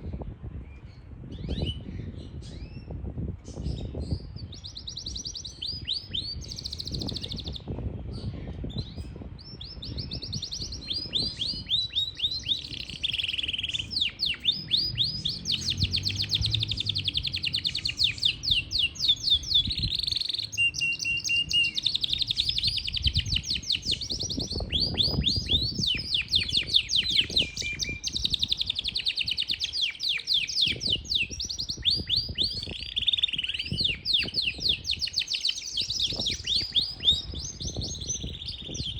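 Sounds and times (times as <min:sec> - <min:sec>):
canary singing trills: 0:00.6 - 0:38.9.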